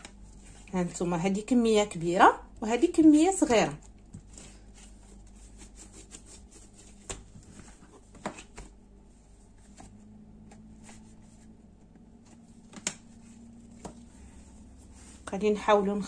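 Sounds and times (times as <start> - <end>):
dough handling noises: 0.0 - 16.0.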